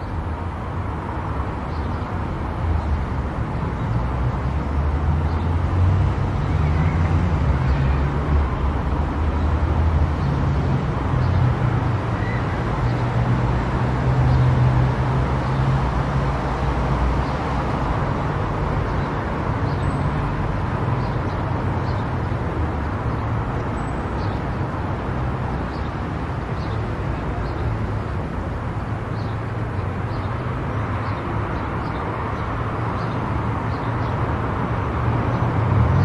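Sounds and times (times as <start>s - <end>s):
car road and tyre noise: 0.0s - 36.0s.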